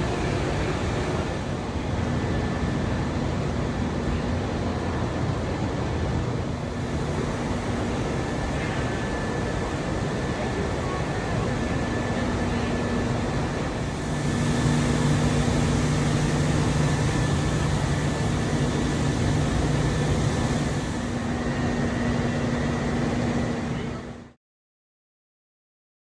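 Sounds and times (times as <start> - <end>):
machinery drone with rushing noise: 0.0 - 24.4.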